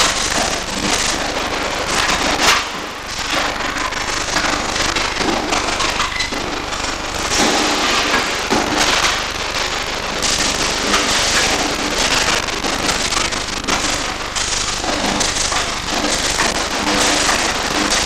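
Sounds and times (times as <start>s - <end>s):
welding arc crackling: 0.0s - 18.0s.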